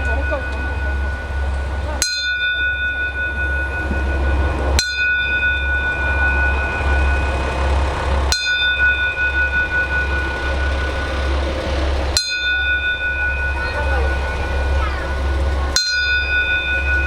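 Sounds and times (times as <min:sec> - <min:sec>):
high whine: 0:00.0 - 0:17.0
train rumble: 0:00.0 - 0:17.0.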